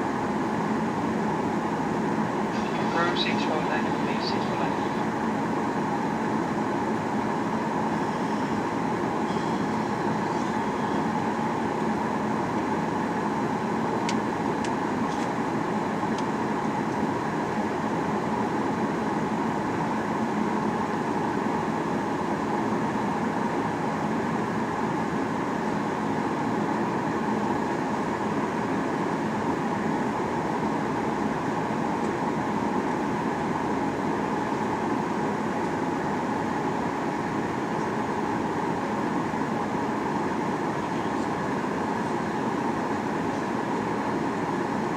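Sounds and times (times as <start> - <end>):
airplane cabin drone: 0.0 - 44.9.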